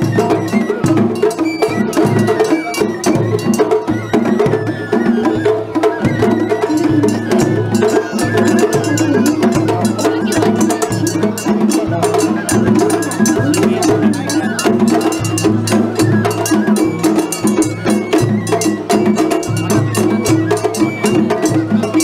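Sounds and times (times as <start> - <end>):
drums: 0.0 - 22.0
pitched melody: 0.0 - 22.0.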